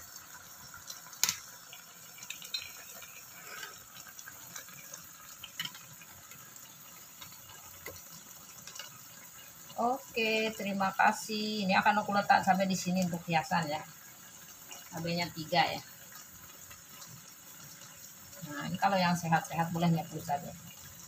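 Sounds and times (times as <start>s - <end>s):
broth simmering and bubbling: 0.0s - 21.0s.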